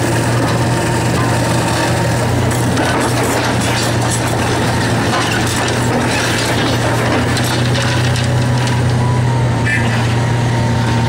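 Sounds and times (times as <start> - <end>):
concrete cracking and crunching: 0.0 - 9.0
diesel engine droning under load: 0.0 - 11.0.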